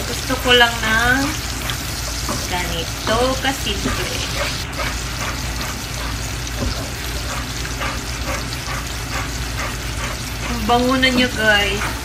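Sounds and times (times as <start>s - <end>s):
mixture sizzling in a pan: 0.0s - 12.0s
spatula scraping a pan: 0.6s - 12.0s.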